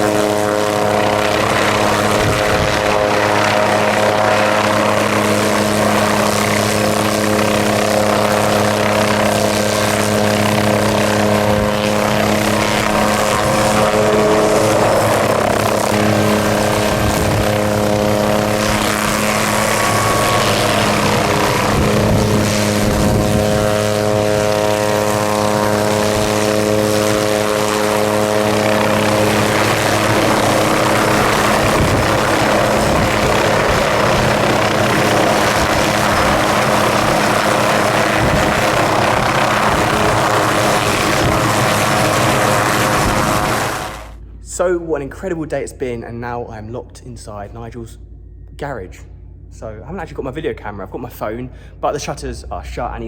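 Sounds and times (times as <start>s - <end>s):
helicopter engine rush: 0.0s - 53.0s
helicopter rotor hum: 0.0s - 53.0s.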